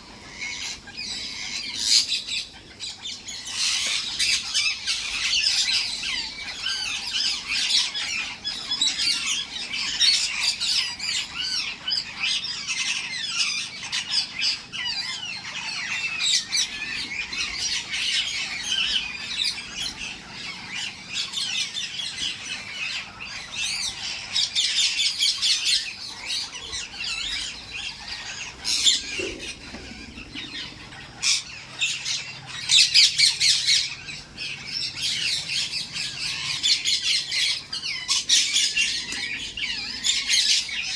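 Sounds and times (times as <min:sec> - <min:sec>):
parrots squawking and chattering: 0:00.0 - 0:40.9.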